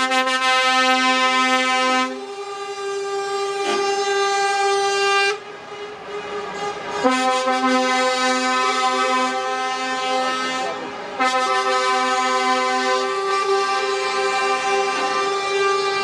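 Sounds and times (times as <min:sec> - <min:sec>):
lorry air horns blaring: 0:00.0 - 0:16.0.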